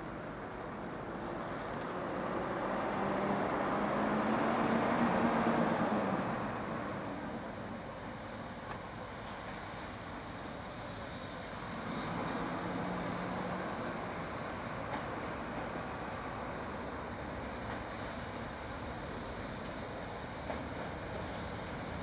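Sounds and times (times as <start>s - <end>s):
diesel locomotive engine rumble: 0.0s - 22.0s.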